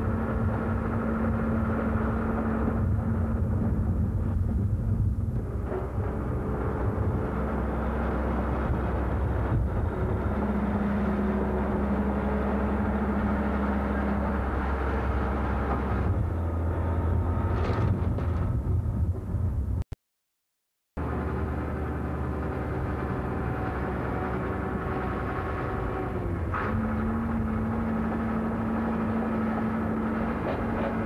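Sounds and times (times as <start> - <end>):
wheel loader diesel engine: 0.0 - 19.9, 21.0 - 31.0.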